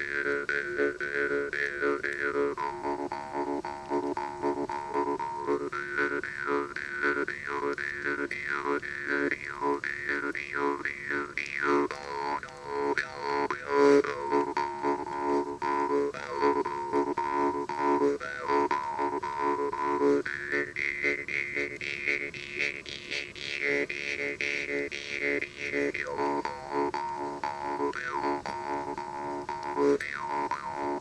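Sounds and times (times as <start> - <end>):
jaw harp playing: 0.0 - 31.0.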